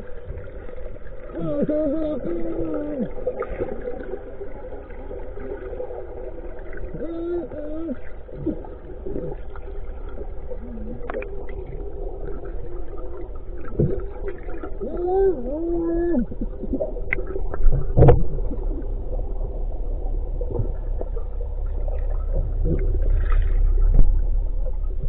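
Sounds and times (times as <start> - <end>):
muffled underwater rumble: 0.0 - 25.0
steady low hum: 0.0 - 25.0.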